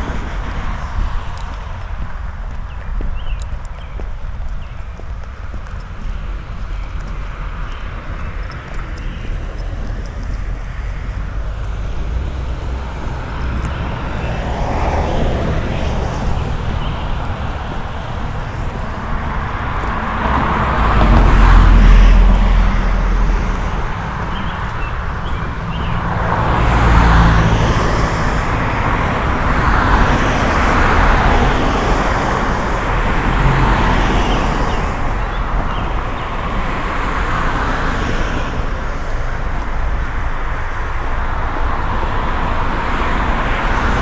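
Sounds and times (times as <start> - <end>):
traffic background: 0.0 - 44.0.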